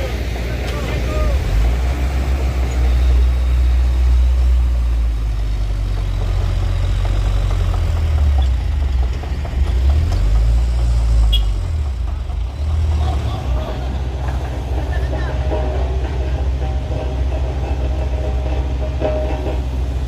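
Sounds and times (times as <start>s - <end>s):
heavy truck engine running: 0.0s - 20.0s.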